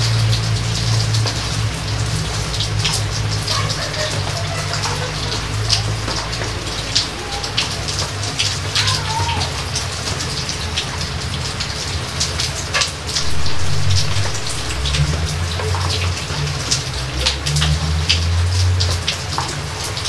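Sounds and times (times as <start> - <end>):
steady rain with heavy drops: 0.0 - 20.0.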